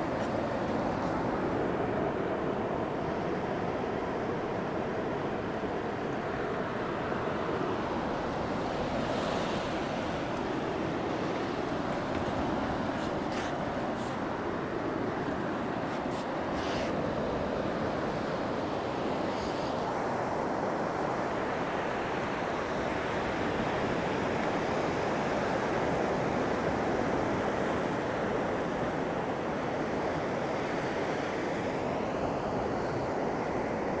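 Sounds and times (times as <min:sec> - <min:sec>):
small waves breaking on sand: 0:00.0 - 0:34.0.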